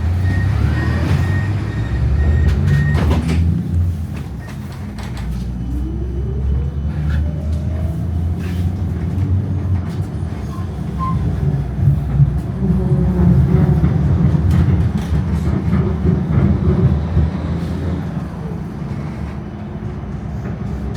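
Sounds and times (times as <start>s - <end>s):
tram rumbling on rails: 0.0s - 20.9s.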